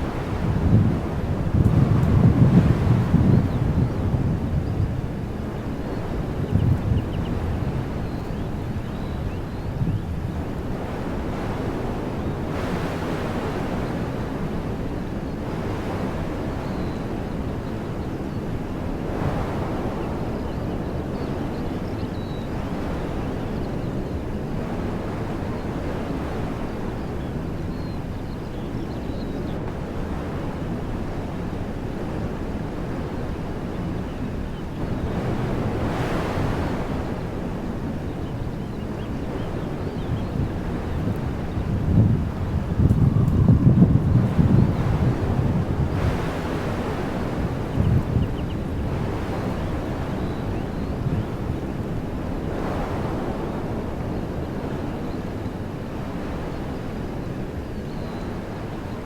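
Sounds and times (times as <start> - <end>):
wind buffeting microphone: 0.0 - 59.0
wind rushing through trees: 0.0 - 59.0.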